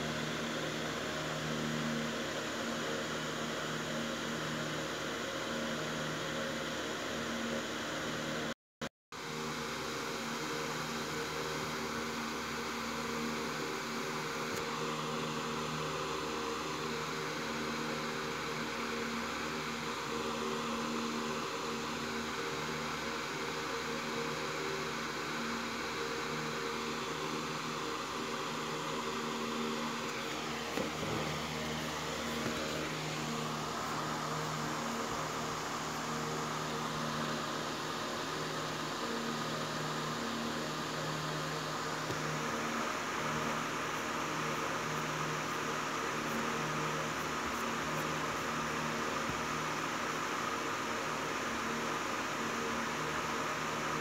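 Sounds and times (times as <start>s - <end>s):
mechanical hum with hiss: 0.0s - 8.5s, 9.2s - 54.0s.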